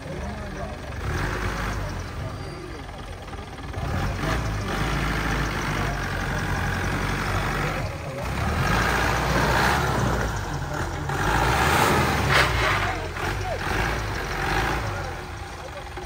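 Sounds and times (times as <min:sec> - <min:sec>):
jeep engine at low revs: 0:00.0 - 0:16.0.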